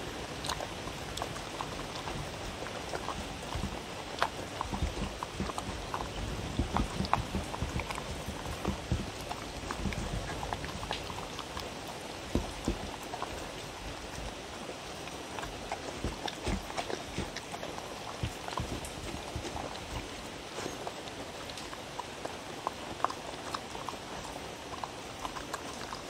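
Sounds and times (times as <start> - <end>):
dog eating from bowl: 0.0 - 26.0.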